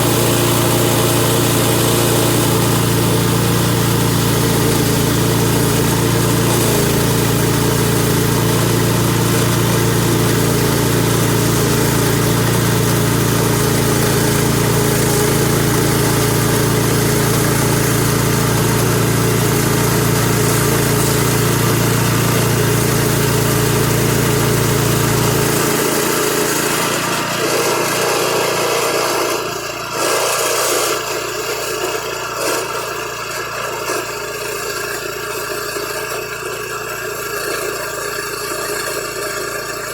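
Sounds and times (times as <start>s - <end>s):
saw blade cutting log: 0.0s - 39.9s
sawmill engine running: 0.0s - 39.9s.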